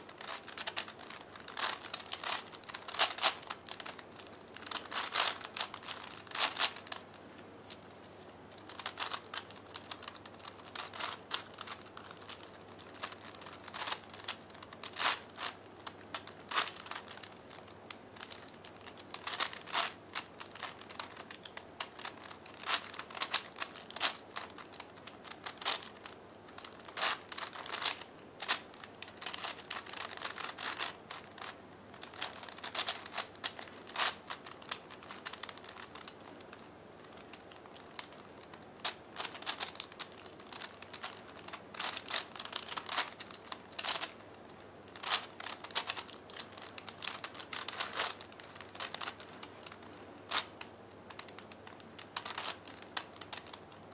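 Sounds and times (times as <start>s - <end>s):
puzzle cube clicking: 0.0s - 7.8s, 8.6s - 53.7s.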